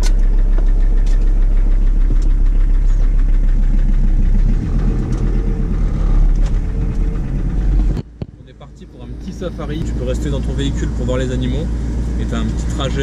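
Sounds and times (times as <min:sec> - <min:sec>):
van engine drone: 0:00.0 - 0:13.0.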